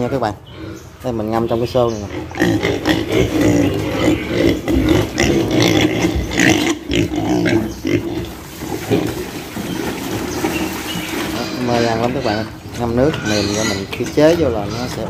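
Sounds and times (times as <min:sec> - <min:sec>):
piglets grunting and squealing: 0:00.0 - 0:15.0.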